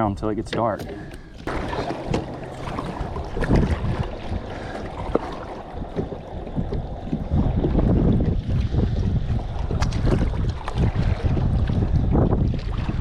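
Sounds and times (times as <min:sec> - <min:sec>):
water slapping hull: 0:00.0 - 0:13.0
wind buffeting microphone: 0:00.0 - 0:13.0.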